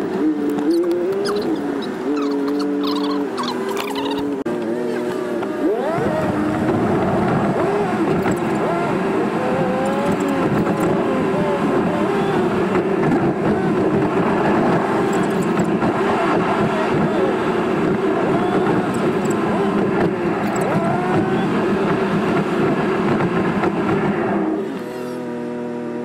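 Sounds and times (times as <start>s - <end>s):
car engine inside cabin: 0.0s - 26.0s
road noise: 0.0s - 26.0s.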